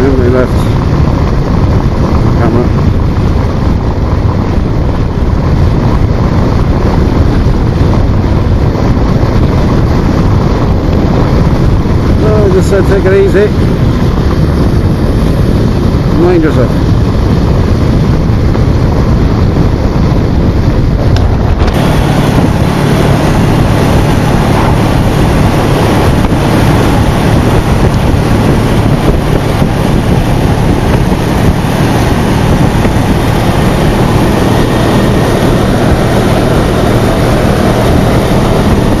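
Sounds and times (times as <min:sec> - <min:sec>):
motorcycle engine hum: 0:00.0 - 0:39.0
wind buffeting microphone: 0:00.0 - 0:39.0.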